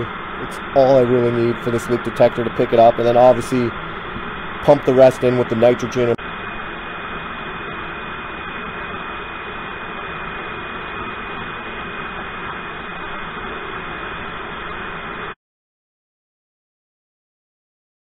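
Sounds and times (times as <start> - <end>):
gas hissing through hoses: 0.0 - 15.4.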